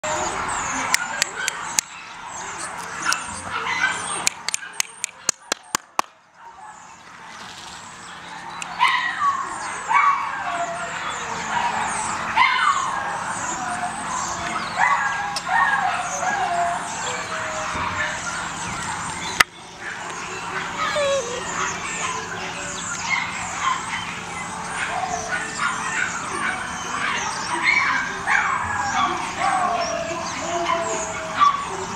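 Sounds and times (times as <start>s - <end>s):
puppies yipping and whining: 0.0s - 5.8s, 6.4s - 31.9s.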